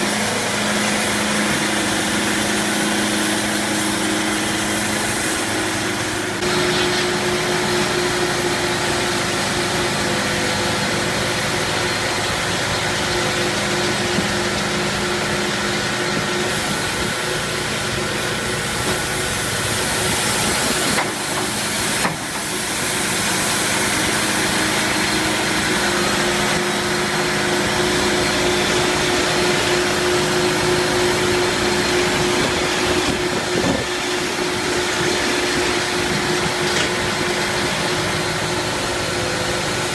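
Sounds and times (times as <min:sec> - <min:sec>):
sawmill machinery humming and hissing: 0:00.0 - 0:39.9.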